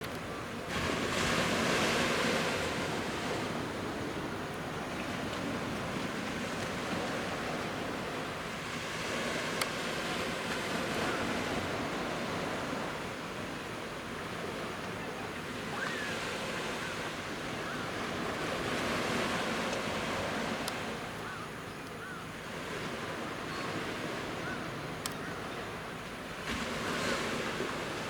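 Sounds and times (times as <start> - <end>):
surf washing onto beach: 0.6 - 21.2, 22.5 - 28.0.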